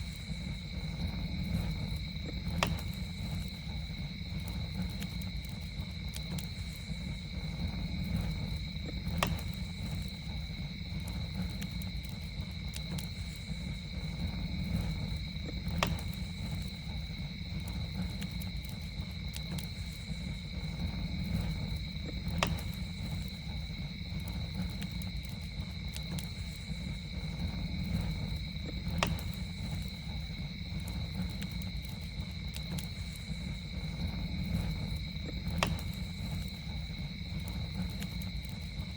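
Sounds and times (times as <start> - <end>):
campfire crackling and popping: 0.0 - 38.9
low fire rumble: 0.0 - 38.9.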